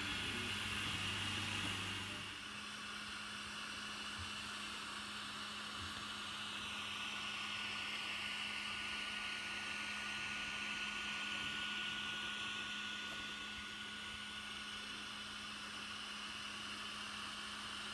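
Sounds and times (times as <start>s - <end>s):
cooling fans whirring: 0.0s - 17.9s
low electrical hum: 0.0s - 17.9s.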